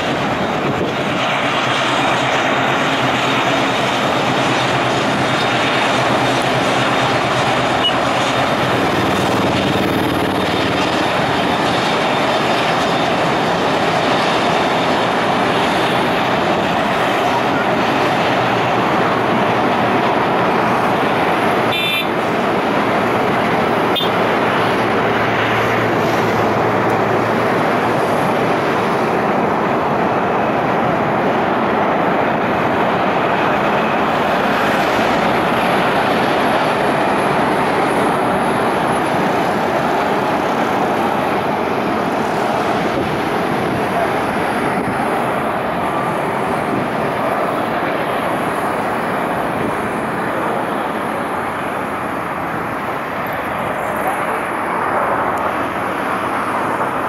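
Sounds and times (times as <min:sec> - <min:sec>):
rushing vehicle noise: 0:00.0 - 0:57.0.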